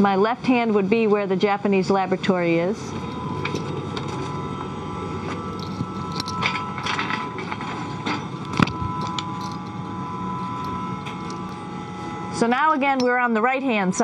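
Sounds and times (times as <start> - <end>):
cabin fans humming: 0.0 - 14.0
thin steady whine: 0.0 - 14.0.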